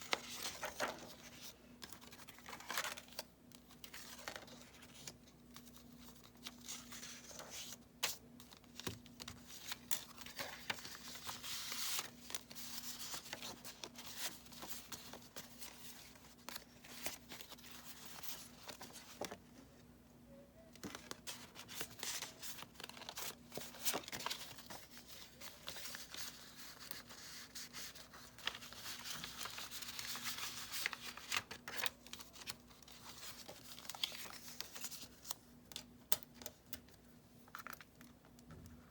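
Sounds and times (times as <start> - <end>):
paper rustling and crinkling: 0.0 - 19.5, 20.8 - 36.6.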